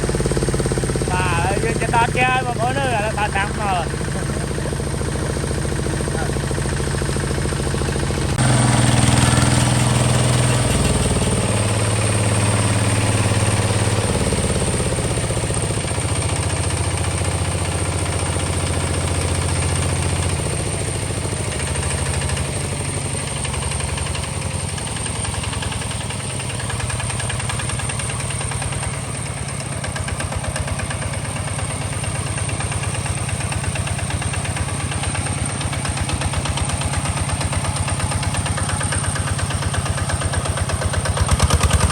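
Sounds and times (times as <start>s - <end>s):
tractor diesel engine chugging: 0.0s - 41.9s.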